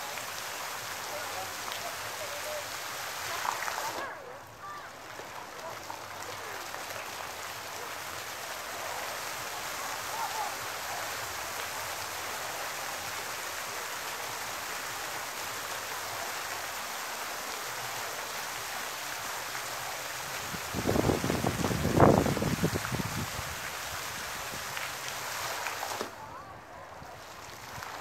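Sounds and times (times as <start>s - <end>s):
fountain spray splashing on water: 0.0s - 28.0s.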